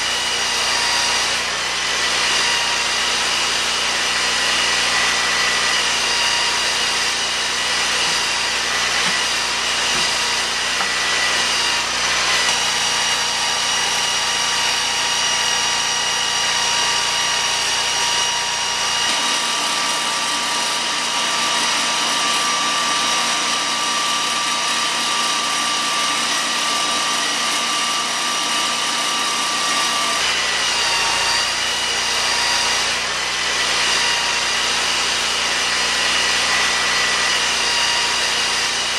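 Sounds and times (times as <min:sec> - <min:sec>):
sawmill engine whine cutting log: 0:00.0 - 0:38.9.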